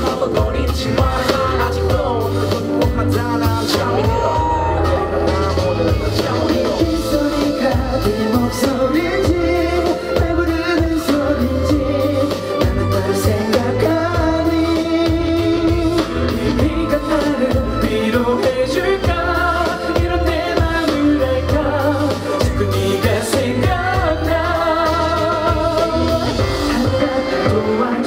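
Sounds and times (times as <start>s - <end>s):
pop song over sound system: 0.0s - 28.0s.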